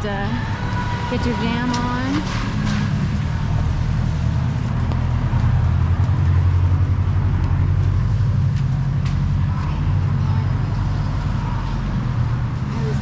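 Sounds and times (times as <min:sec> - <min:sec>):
street traffic noise: 0:00.0 - 0:13.0
vehicle engine rumbling: 0:00.0 - 0:13.0.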